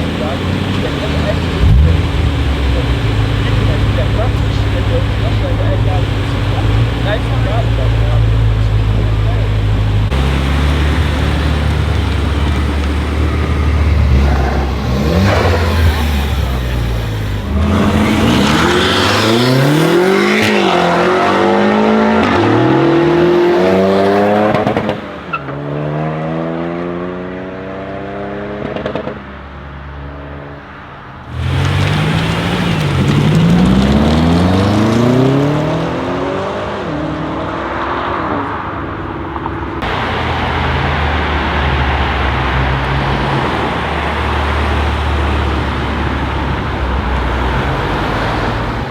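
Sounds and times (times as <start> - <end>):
car engine accelerating hard: 0.0 - 29.2, 31.3 - 48.9.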